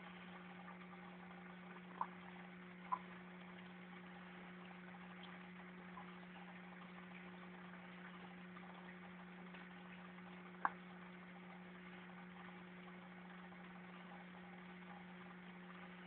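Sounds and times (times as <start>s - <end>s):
aquarium pump humming: 0.0s - 16.0s.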